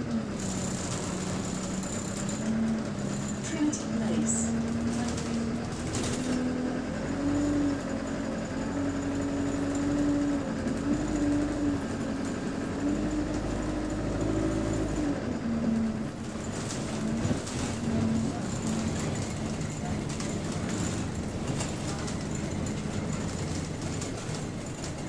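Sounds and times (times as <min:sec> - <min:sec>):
bus engine hum: 0:00.0 - 0:25.0
low road rumble: 0:00.0 - 0:25.0.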